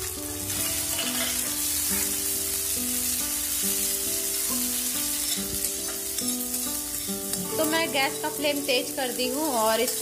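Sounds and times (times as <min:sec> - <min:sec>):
background music with held notes: 0:00.0 - 0:10.0
food sizzling in oil: 0:00.0 - 0:10.0.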